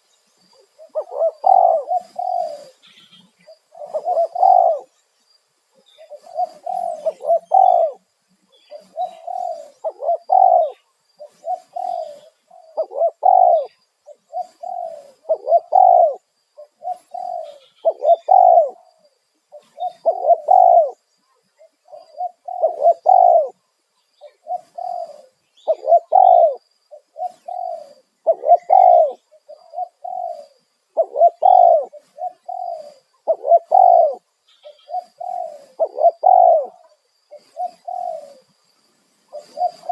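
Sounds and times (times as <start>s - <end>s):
dove cooing: 0.0s - 4.9s, 6.0s - 21.0s, 21.6s - 23.6s, 24.2s - 38.5s, 39.3s - 39.9s.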